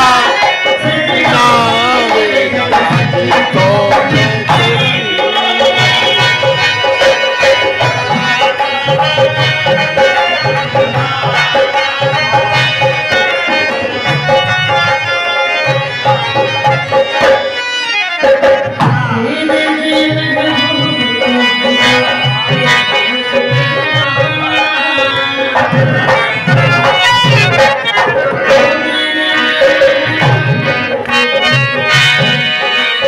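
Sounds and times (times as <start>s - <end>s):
hand drums rhythm: 0.0s - 33.0s
harmonium melody: 0.0s - 33.0s.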